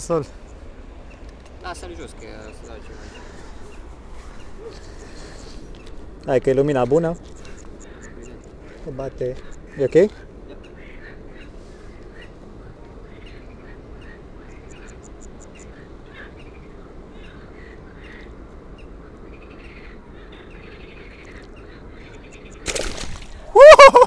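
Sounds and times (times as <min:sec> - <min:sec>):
small birds chirping: 0:00.0 - 0:23.5
low outdoor hum: 0:00.0 - 0:24.0.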